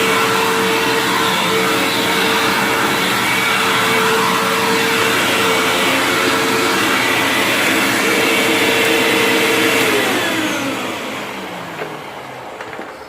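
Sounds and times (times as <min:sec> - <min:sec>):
vacuum cleaner motor winding down: 0:00.0 - 0:13.0.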